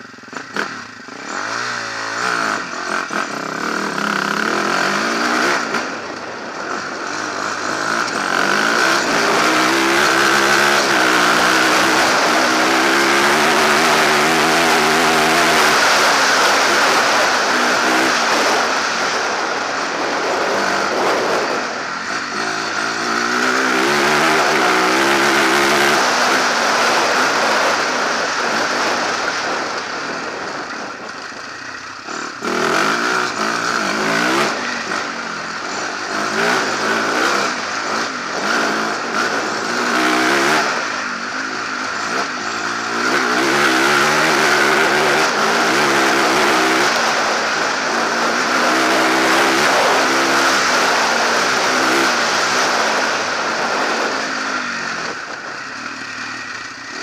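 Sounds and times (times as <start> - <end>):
motorcycle engine revving: 0.0 - 57.0
wind and tyre hiss: 0.0 - 57.0.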